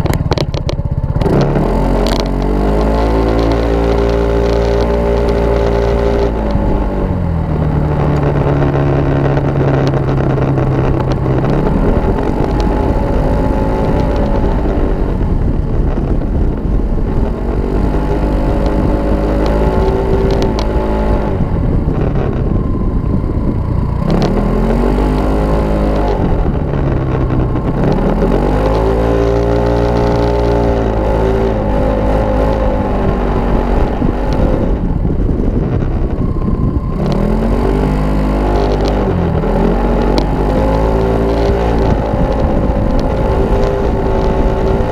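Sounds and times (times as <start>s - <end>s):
scooter engine accelerating: 0.0s - 44.9s
wind and tyre noise: 0.0s - 44.9s.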